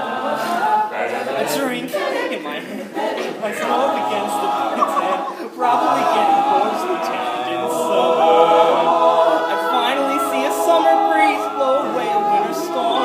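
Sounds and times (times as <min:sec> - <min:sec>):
male a cappella group singing: 0:00.0 - 0:13.0.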